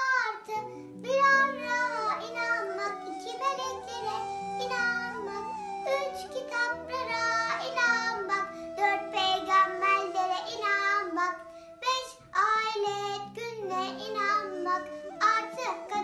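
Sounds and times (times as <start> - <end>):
backing music track: 0.0 - 16.0
girl singing a hymn: 0.0 - 16.0.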